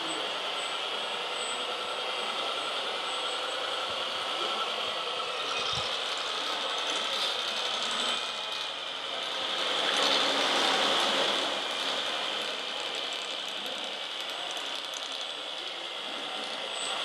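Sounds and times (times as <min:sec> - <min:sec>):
electric motors whirring and grinding: 0:00.0 - 0:17.0.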